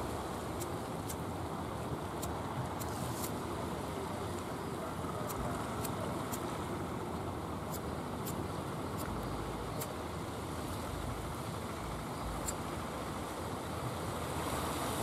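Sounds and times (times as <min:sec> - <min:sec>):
water wash: 0:00.0 - 0:15.0.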